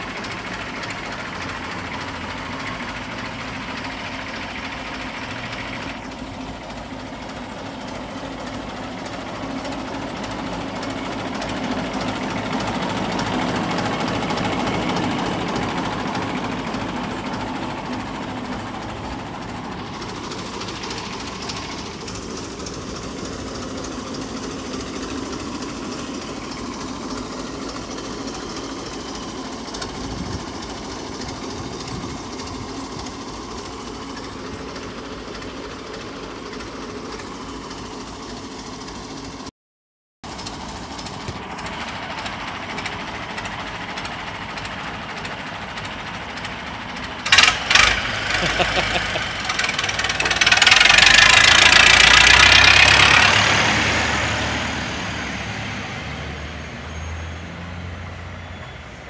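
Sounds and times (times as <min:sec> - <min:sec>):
diesel tractor engine knocking: 0:00.0 - 0:39.5, 0:40.2 - 0:56.2.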